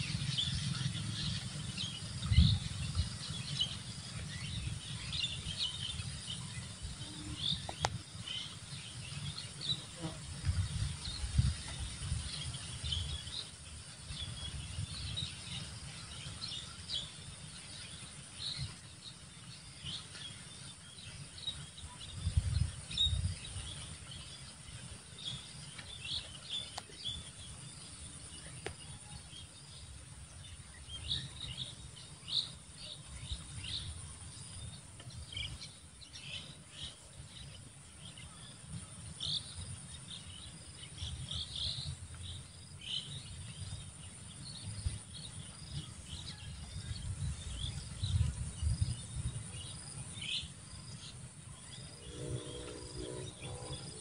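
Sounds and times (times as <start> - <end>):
faint insect hum: 0.0 - 54.0.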